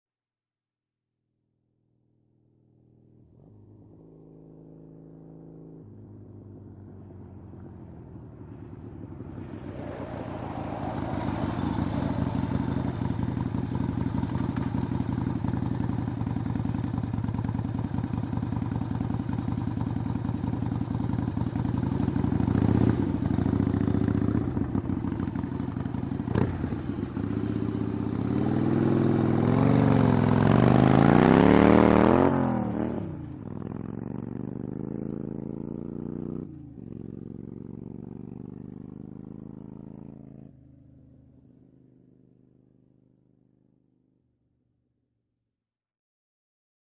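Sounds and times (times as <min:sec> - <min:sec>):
motorcycle engine idling and revving: 0:02.0 - 0:44.6.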